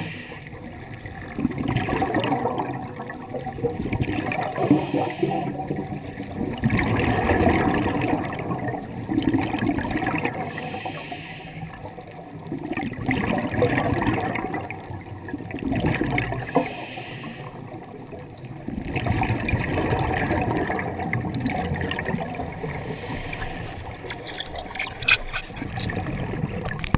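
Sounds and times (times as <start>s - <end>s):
underwater gurgling and rushing: 0.0s - 26.9s.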